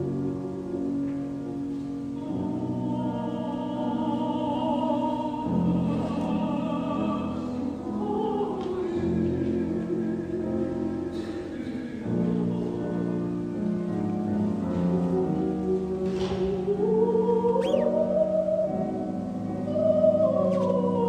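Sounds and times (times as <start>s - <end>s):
operatic singing: 2.2s - 21.0s.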